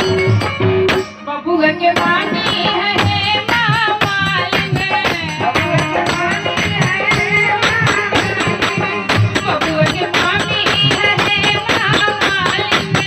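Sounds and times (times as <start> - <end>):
drum beat: 0.0 - 1.1, 2.0 - 13.0
jingling percussion: 0.0 - 13.0.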